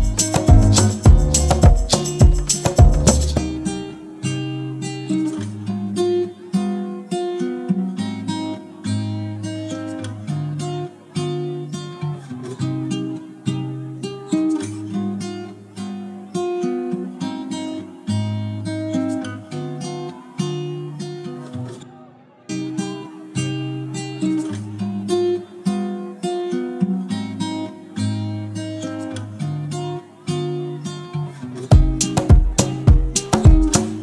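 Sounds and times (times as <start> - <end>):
plucked acoustic guitar music: 0.0 - 34.0.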